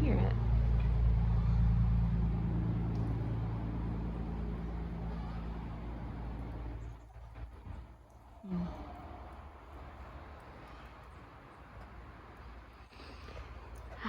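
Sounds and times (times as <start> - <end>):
vehicle engine drone: 0.0 - 14.0
rain hiss: 1.4 - 14.0.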